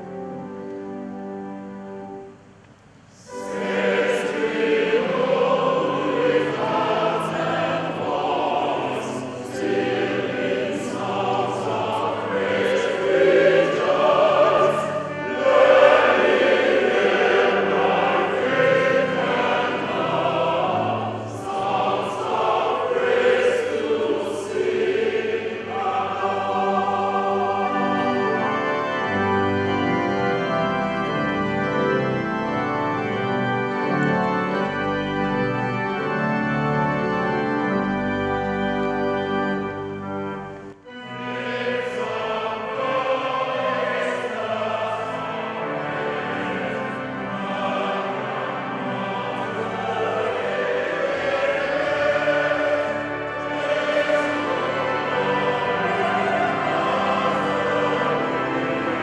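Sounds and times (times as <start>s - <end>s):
choir singing a hymn: 0.0s - 2.4s, 3.1s - 59.0s
organ chords: 0.0s - 59.0s.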